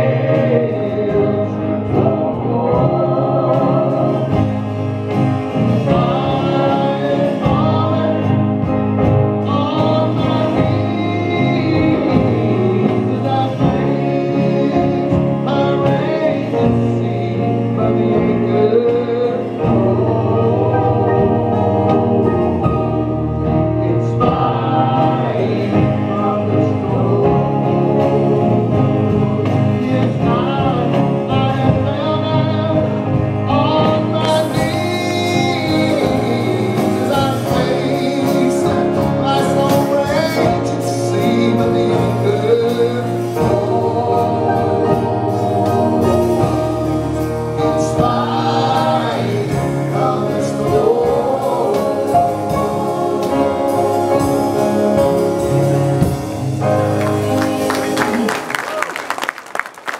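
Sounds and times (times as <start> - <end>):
acoustic guitar: 0.0 - 58.5
vocal group singing in harmony: 0.0 - 58.5.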